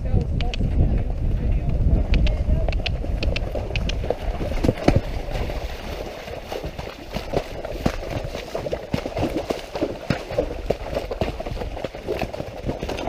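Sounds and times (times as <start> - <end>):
wind rumbling on microphone: 0.0 - 13.0
horse hoofbeats in mud: 0.4 - 13.0.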